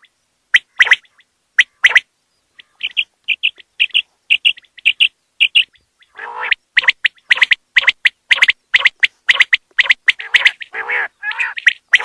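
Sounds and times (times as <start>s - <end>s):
quail calling: 0.0s - 12.0s.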